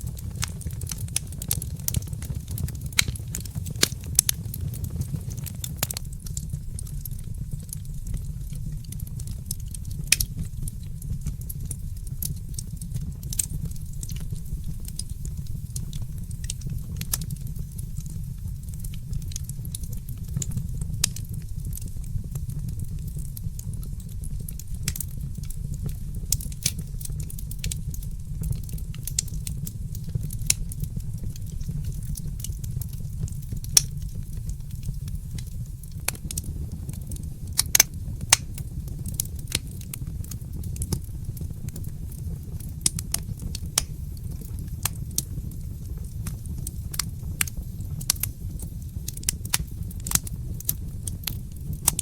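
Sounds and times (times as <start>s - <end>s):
fireplace fire crackling: 0.0s - 52.0s.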